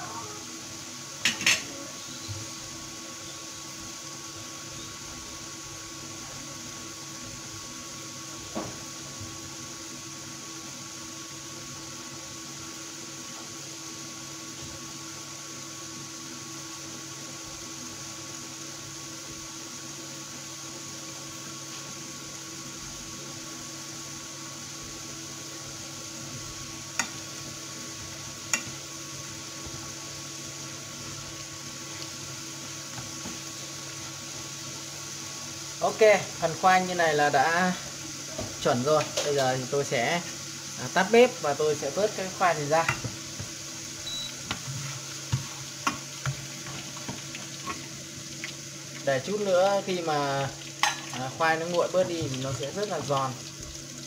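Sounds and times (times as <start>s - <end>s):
cooktop hum: 0.0s - 54.0s
oil sizzling and bubbling: 0.0s - 54.0s.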